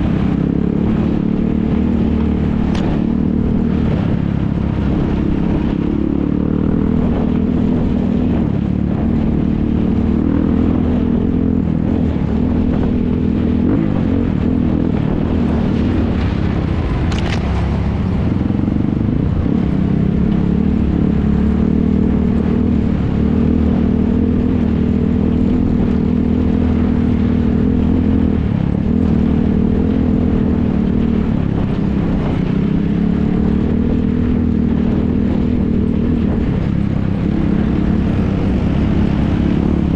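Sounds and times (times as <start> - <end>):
atv engines revving: 0.0 - 39.9.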